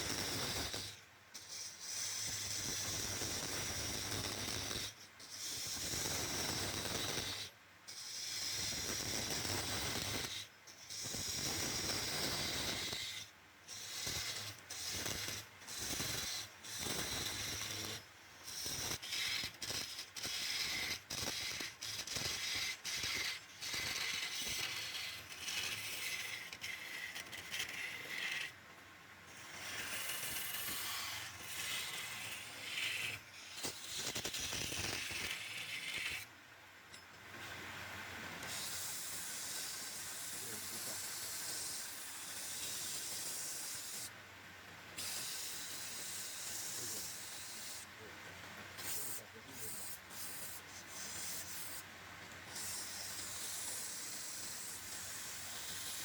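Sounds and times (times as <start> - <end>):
lathe tool scraping wood: 0.0 - 28.6, 29.3 - 36.3, 38.4 - 44.1, 45.0 - 47.9, 48.8 - 51.9, 52.5 - 56.0.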